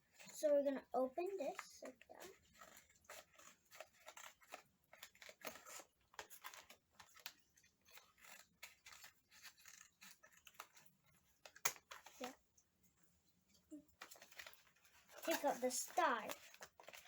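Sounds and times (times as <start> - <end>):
packaging crinkling and clicking: 1.5 - 12.4, 14.0 - 17.0.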